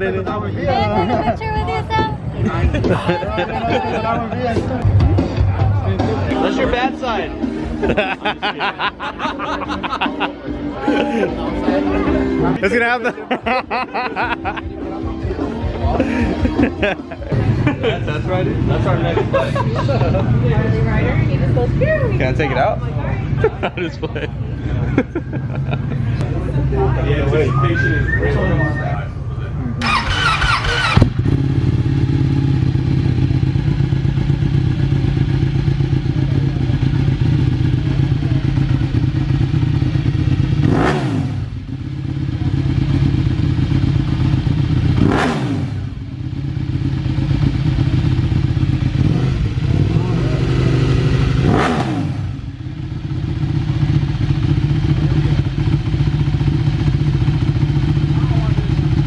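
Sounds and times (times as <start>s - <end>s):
motorcycle engine idling and revving: 0.0s - 27.4s, 29.4s - 59.0s.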